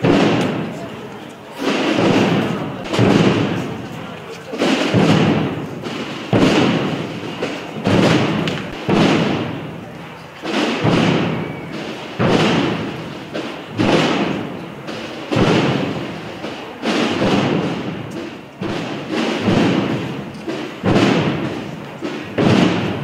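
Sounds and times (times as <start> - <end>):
drums beating slow march: 0.0 - 23.0.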